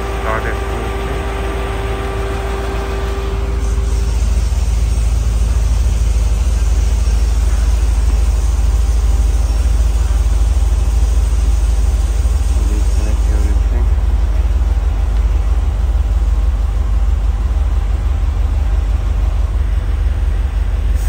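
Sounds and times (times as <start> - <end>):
engine low rumble: 0.0 - 21.0.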